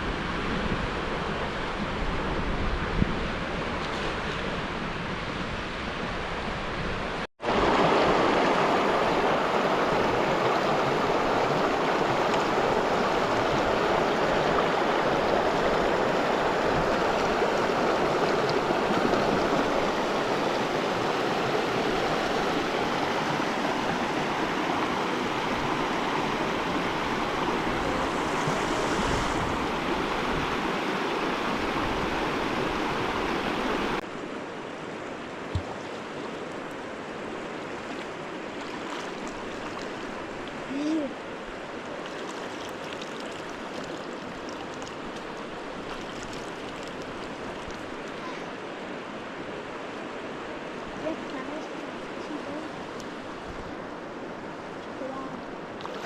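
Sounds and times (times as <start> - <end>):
river rushing: 3.2 - 56.0.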